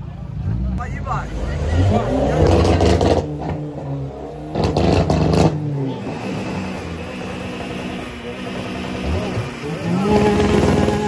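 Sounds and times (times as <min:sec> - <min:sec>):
car engine revving: 0:00.3 - 0:11.0.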